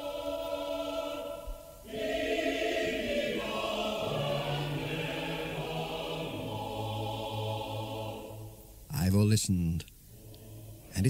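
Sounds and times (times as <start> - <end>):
choir singing held chords: 0.0 - 8.9, 10.0 - 11.0.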